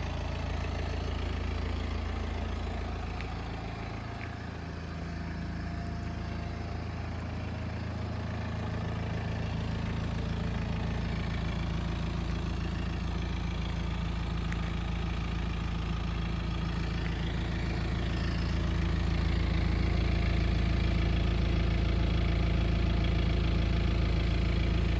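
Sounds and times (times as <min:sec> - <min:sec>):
diesel engine idling: 0:00.0 - 0:24.9.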